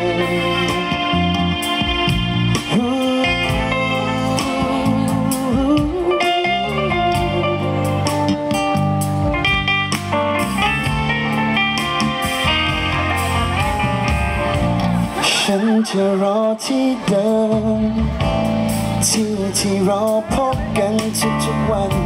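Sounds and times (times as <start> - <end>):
bass: 0.0 - 22.0
drums: 0.0 - 22.0
keyboard: 0.0 - 22.0
lead guitar melody: 0.0 - 22.0.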